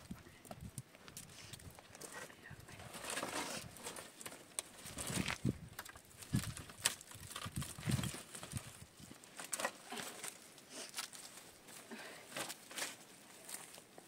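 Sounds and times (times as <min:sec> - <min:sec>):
footsteps on stony ground: 0:00.0 - 0:14.0
sticks rustling and scraping rock: 0:00.0 - 0:14.0.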